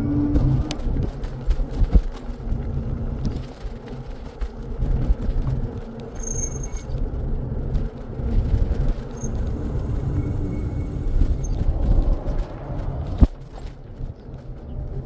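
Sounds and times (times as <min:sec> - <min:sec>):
wind buffeting microphone: 0:00.0 - 0:06.0, 0:06.8 - 0:15.0.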